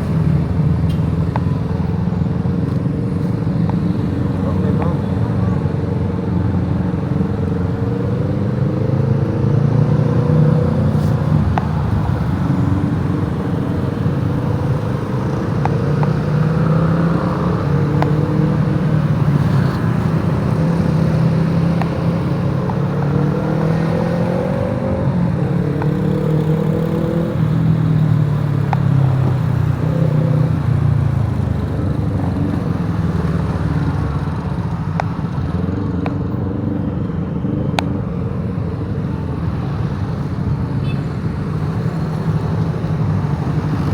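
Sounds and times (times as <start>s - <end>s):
road noise: 0.0s - 43.9s.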